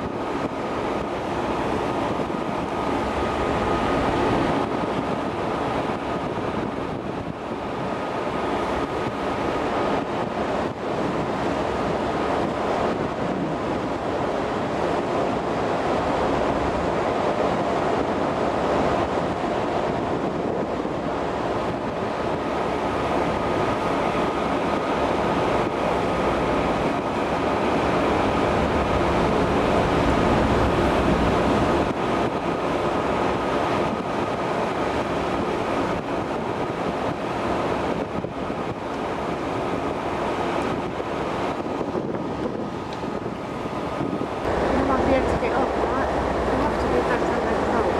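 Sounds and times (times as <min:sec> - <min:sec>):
rush of sea water: 0:00.0 - 0:47.9
wind on microphone: 0:00.0 - 0:47.9.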